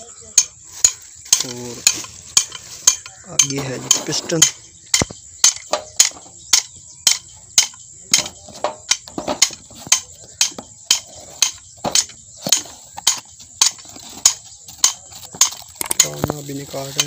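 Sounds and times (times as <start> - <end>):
hand tool tapping on metal: 0.4 - 17.0.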